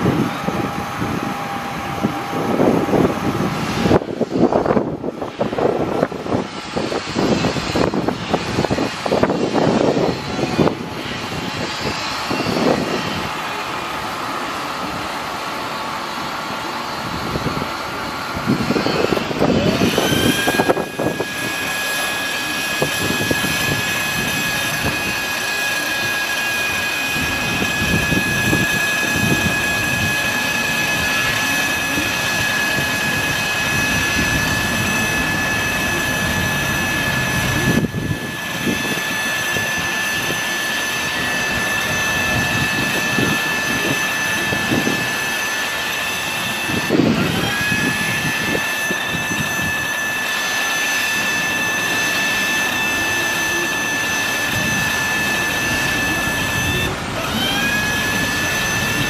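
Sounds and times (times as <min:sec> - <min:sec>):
engine-driven machinery running: 0:00.0 - 0:59.0
steady high whine: 0:00.0 - 0:59.0.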